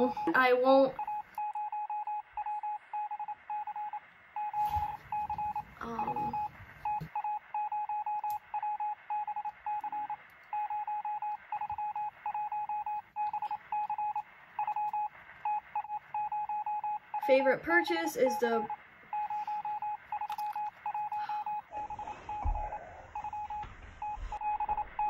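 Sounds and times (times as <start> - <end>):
electronic beeps like morse code: 0.0 - 25.0.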